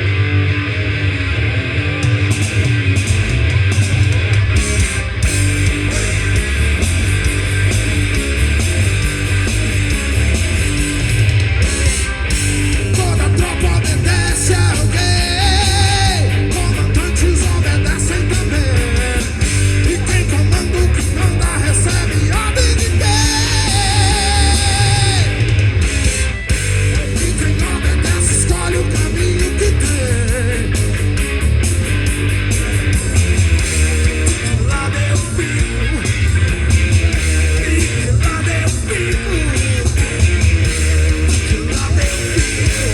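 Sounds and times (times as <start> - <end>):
bass guitar: 0.0 - 42.9
drums: 0.0 - 42.9
electric guitar: 0.0 - 42.9.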